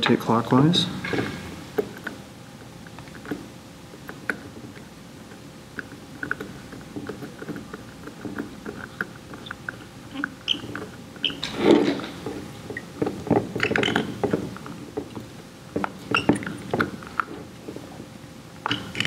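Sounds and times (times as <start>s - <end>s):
fingers clicking and scraping on pump: 2.9s - 18.0s, 18.6s - 19.0s.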